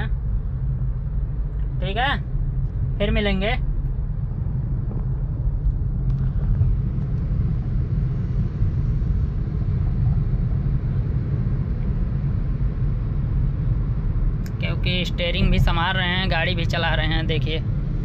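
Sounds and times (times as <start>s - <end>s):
car engine noise inside cabin: 0.0s - 18.0s
tyre road noise: 0.0s - 18.0s.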